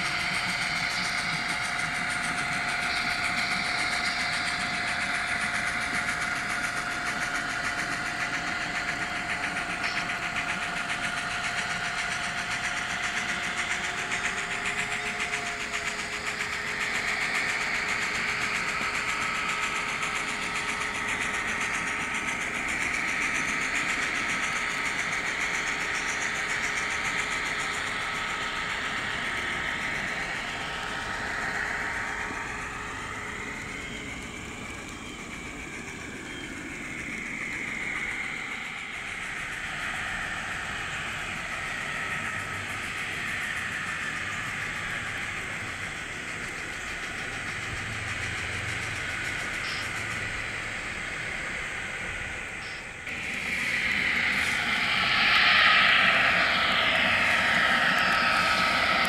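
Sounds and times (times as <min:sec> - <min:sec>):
model locomotive motors whining: 0:00.0 - 0:59.0
wheels clicking on track: 0:00.0 - 0:59.0.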